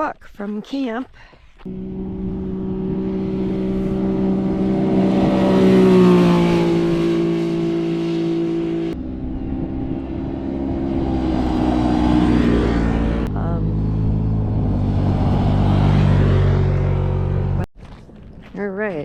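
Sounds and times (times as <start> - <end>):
vehicles passing on a road: 1.4 - 18.6.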